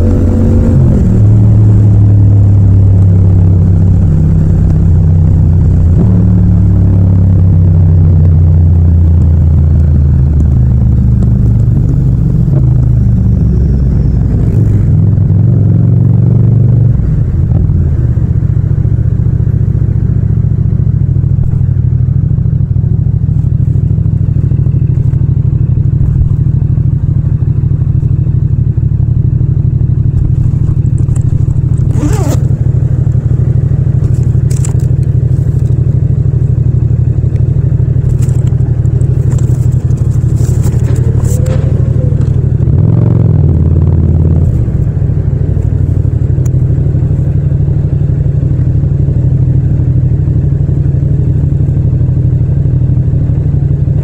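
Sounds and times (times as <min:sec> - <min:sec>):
motorcycle engine idling: 0:01.8 - 0:54.0.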